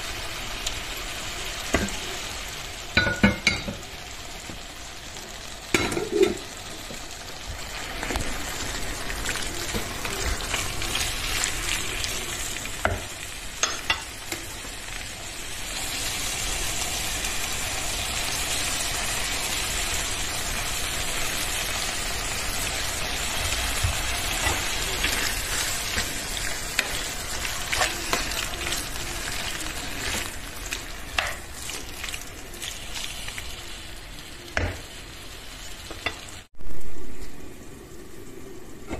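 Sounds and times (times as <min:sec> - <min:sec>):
vegetables sizzling in a frying pan: 0:00.0 - 0:38.9.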